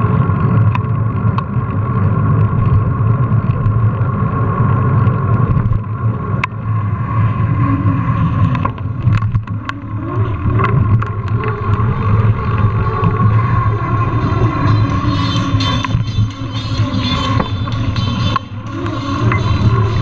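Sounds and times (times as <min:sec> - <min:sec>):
bike rattles and clicks: 0:00.0 - 0:06.7, 0:08.3 - 0:20.0
wind buffeting microphone: 0:00.0 - 0:20.0.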